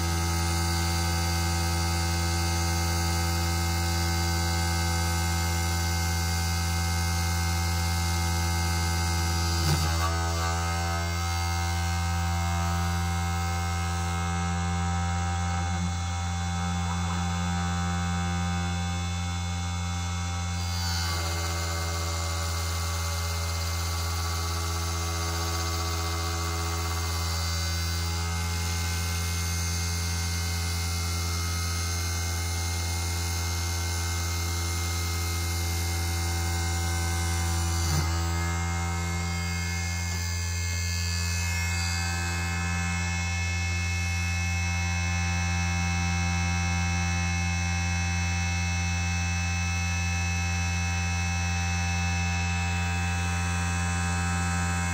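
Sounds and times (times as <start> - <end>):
electric motor hum: 0.0 - 54.9.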